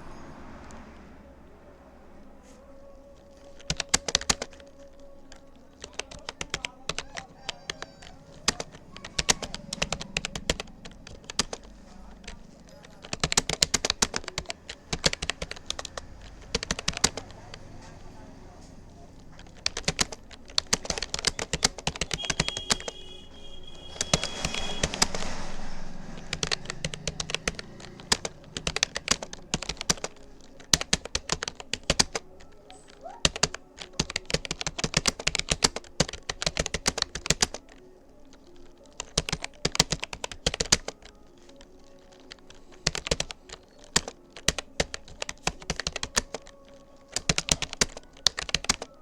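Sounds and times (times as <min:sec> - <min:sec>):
keyboard typing clicks: 0:02.9 - 0:49.0.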